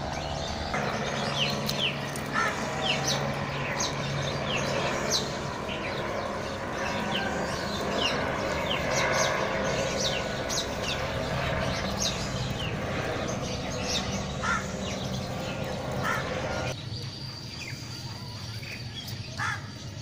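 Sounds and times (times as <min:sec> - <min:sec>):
steady low hum: 0:00.0 - 0:19.1
small birds chirping: 0:00.0 - 0:20.0.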